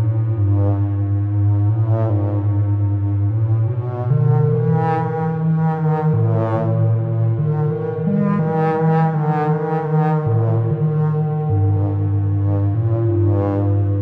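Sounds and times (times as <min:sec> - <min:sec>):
low held synth bass notes: 0:00.0 - 0:14.0
brassy synth note swells: 0:00.3 - 0:14.0.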